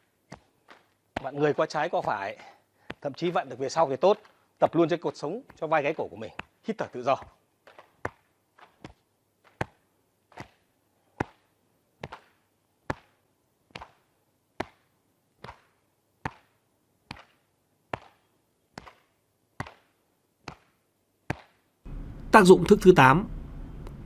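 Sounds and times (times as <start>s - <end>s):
hands slapping the body: 0.0s - 3.4s, 4.1s - 4.8s, 5.5s - 21.7s.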